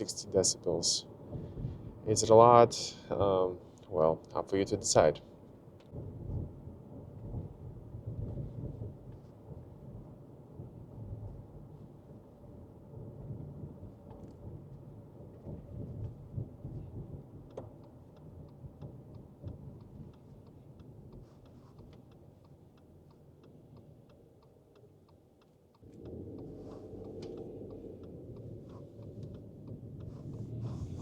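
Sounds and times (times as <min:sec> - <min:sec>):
road and engine rumble: 0:00.0 - 0:31.0
turn signal ticking: 0:05.6 - 0:31.0.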